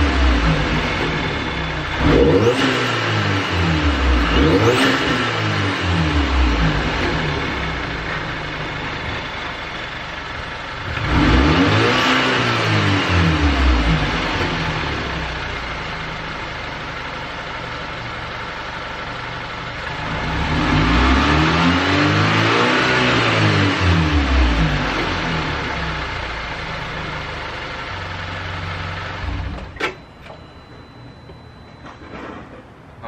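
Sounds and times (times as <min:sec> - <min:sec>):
car engine idling and revving: 0:00.0 - 0:32.4.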